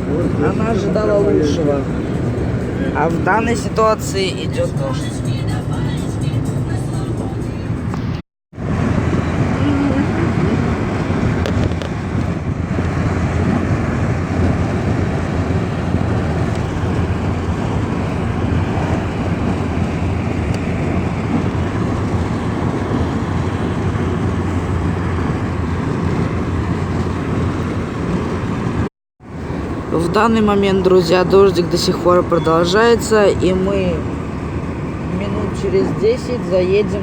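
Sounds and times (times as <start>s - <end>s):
car driving on wet road: 0.0s - 37.0s.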